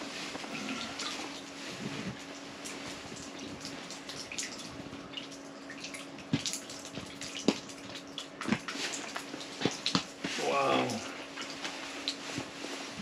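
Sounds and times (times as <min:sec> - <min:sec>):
steady low hum: 0:00.0 - 0:13.0
water dripping and splashing: 0:00.0 - 0:13.0.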